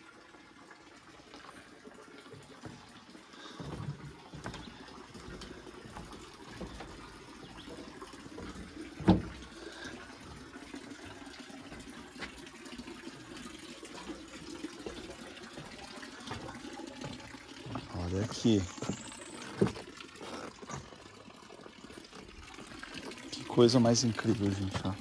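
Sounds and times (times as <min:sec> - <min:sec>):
water running: 0:00.0 - 0:25.0.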